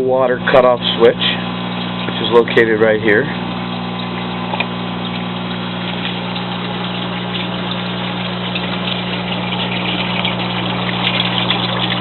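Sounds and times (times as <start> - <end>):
electric pump hum: 0.0 - 12.0
water hissing through pipes: 0.0 - 12.0.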